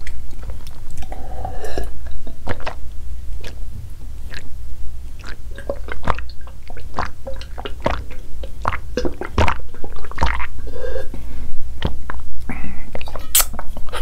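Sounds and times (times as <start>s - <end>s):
person gulping a drink: 0.0s - 3.6s, 4.2s - 4.5s, 5.2s - 11.1s, 11.8s - 12.2s, 12.9s - 14.0s.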